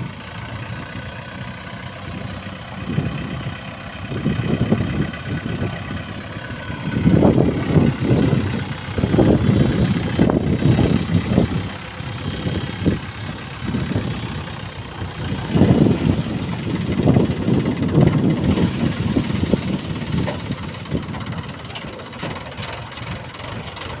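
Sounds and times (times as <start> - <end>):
heavy diesel engine surging: 0.0 - 24.0.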